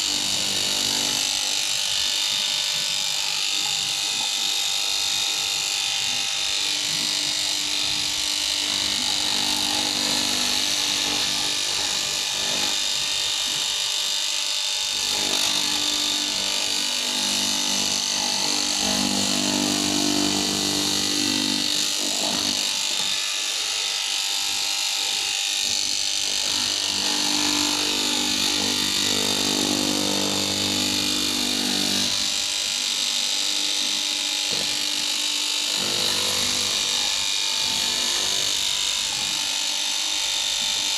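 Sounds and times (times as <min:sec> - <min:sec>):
fabric cutting machine whine: 0:00.0 - 0:40.9.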